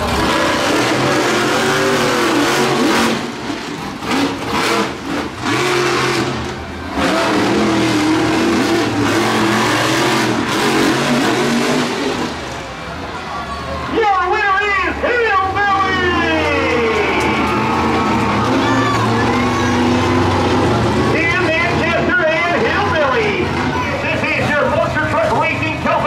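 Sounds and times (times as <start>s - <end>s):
truck engines revving: 0.0s - 26.0s.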